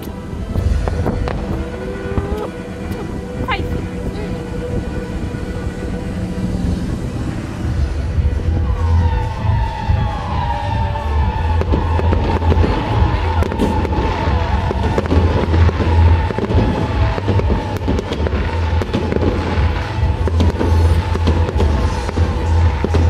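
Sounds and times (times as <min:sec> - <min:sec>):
fireworks cracking: 0:00.0 - 0:23.0
loud music with heavy bass: 0:00.0 - 0:23.0.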